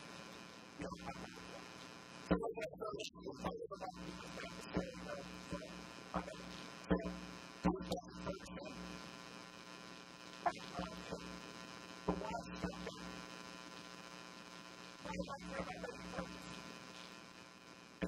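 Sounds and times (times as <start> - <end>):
buzzy mains hum: 0.0 - 18.0.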